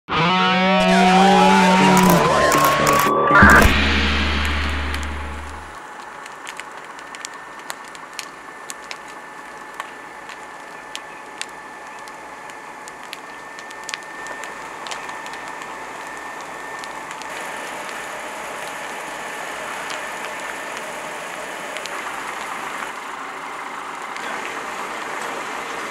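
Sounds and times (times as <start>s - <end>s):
faint high whine: 0.7s - 25.9s
fire crackling and popping: 0.9s - 25.9s
steady rush of fire: 1.2s - 25.9s.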